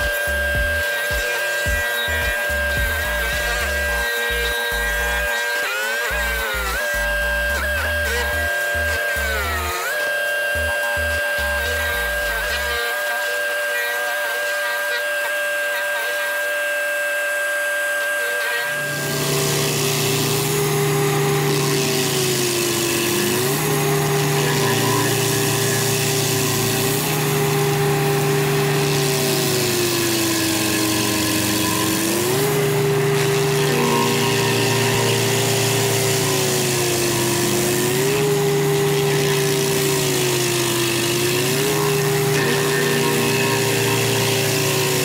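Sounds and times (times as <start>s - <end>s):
diesel engine running hard: 0.0s - 5.3s, 6.1s - 12.8s, 18.8s - 45.0s
stump grinder grinding stump: 0.0s - 45.0s.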